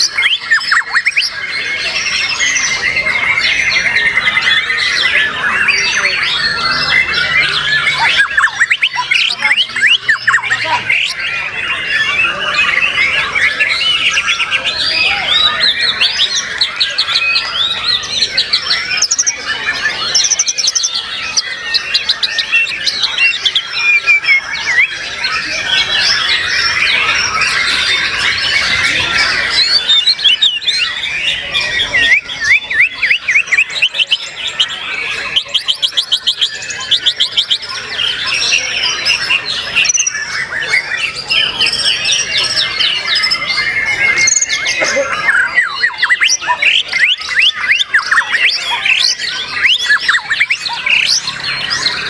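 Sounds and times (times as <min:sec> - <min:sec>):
birds singing whistles and trills: 0:00.0 - 0:52.0.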